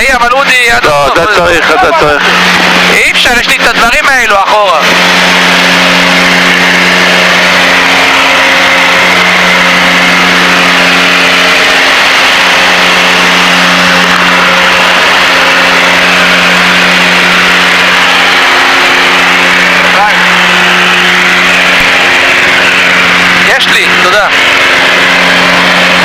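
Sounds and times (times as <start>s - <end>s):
propeller plane engines droning: 0.0s - 26.0s.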